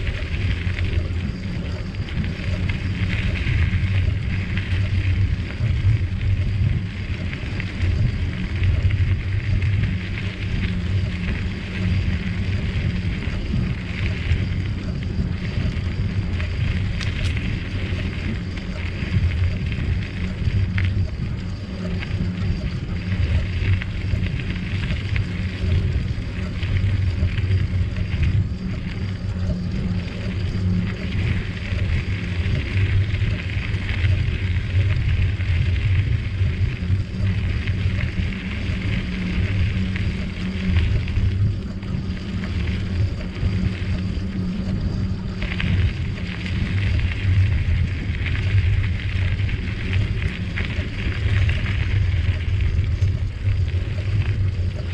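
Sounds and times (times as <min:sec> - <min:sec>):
bicycle tyres on a trail: 0:00.0 - 0:54.9
wind buffeting microphone: 0:00.0 - 0:54.9.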